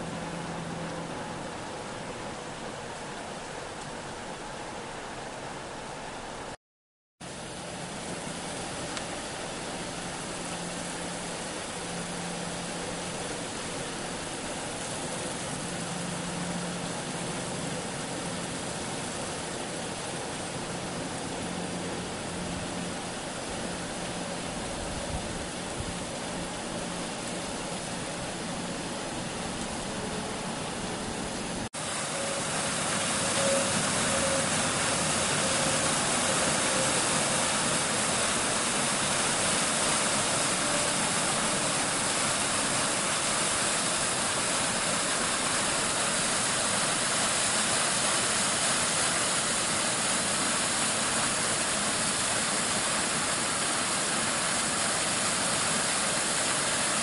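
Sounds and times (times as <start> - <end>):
waterfall rushing: 7.3 - 57.0.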